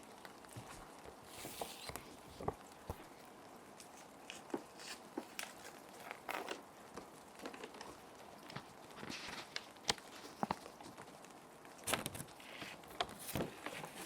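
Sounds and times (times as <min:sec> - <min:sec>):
faint rain: 0:00.0 - 0:14.0
plastic sheets crinkling: 0:00.0 - 0:14.0.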